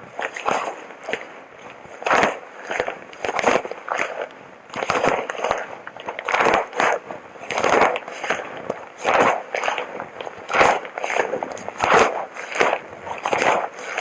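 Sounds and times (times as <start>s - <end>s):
suit material rustling and crinkling: 0.0s - 14.0s.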